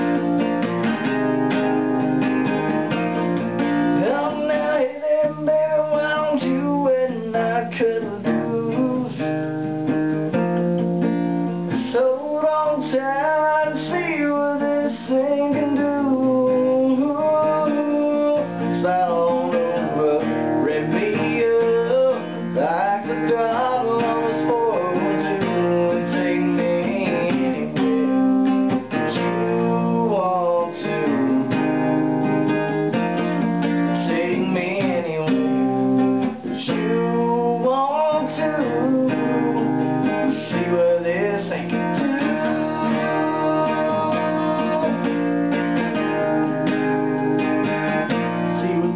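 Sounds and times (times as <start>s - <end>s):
acoustic guitar strummed and picked: 0.0s - 48.9s.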